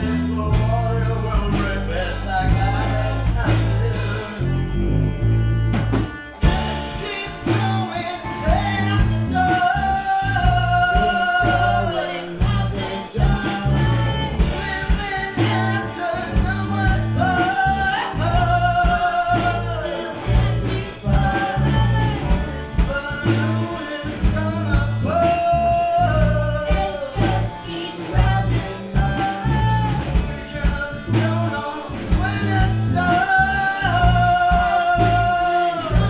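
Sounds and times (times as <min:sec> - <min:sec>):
lead vocal singing: 0:00.0 - 0:36.0
live rock band playing: 0:00.0 - 0:36.0.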